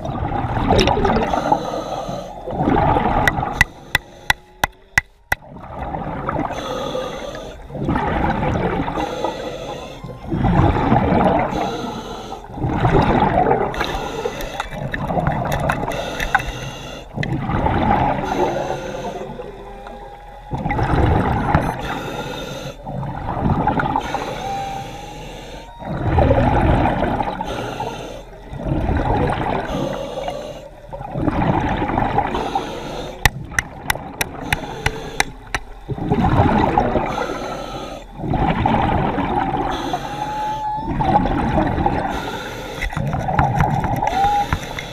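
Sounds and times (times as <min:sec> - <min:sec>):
water rushing and bubbling: 0:00.0 - 0:44.9.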